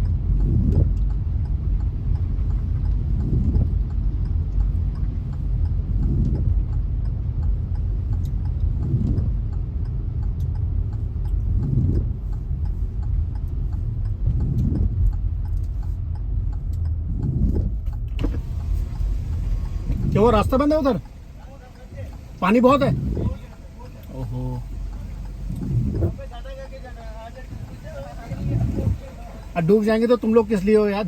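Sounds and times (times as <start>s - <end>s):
car rumbling on wet road: 0.0s - 31.0s
rain ticking: 0.0s - 31.0s.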